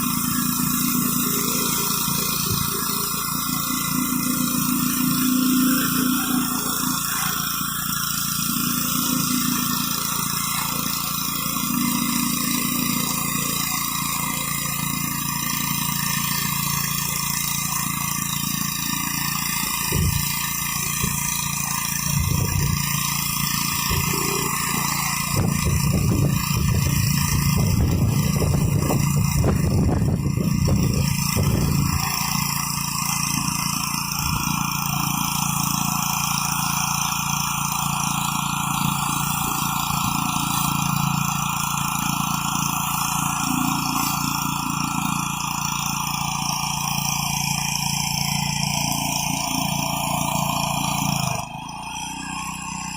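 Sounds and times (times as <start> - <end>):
high-pressure water spray hissing: 0.0 - 52.9
pressure washer engine running: 0.0 - 52.9.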